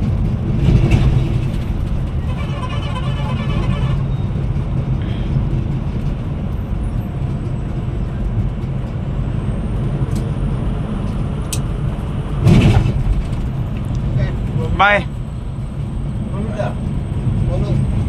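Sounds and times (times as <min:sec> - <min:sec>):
coach engine and road rumble: 0:00.0 - 0:18.0.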